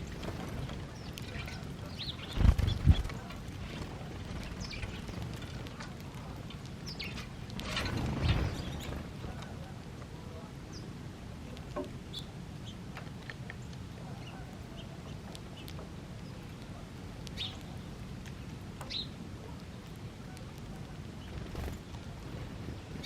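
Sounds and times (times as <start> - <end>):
low background rumble: 0.0 - 12.8, 13.7 - 23.0
birds chirping: 0.0 - 23.0.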